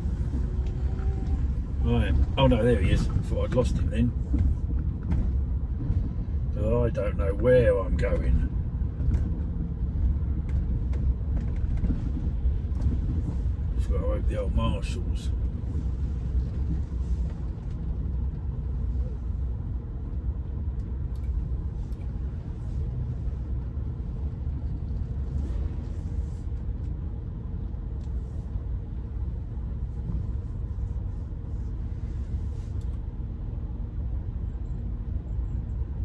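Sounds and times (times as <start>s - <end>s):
car engine and tyres rumbling: 0.0s - 36.0s.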